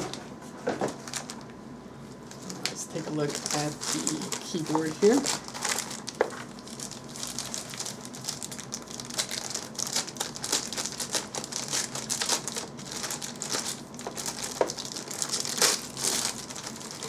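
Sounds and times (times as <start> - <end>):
plastic packaging crinkling: 0.8 - 1.5, 2.2 - 17.0.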